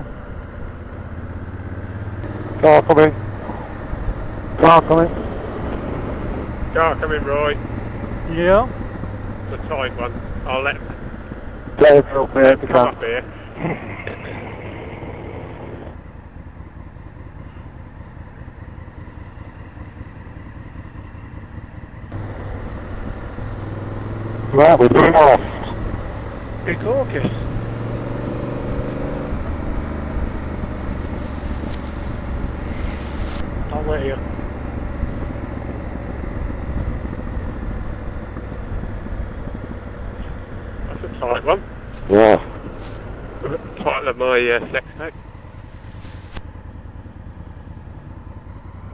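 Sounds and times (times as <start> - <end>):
motorcycle engine rumbling: 0.0 - 48.9
wind and road noise: 0.0 - 48.9.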